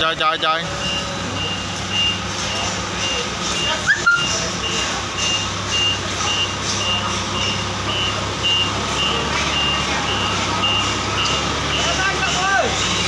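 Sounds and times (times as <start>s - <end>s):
forklift engine humming: 0.0s - 13.0s
forklift reversing alarm beeping: 0.0s - 13.0s.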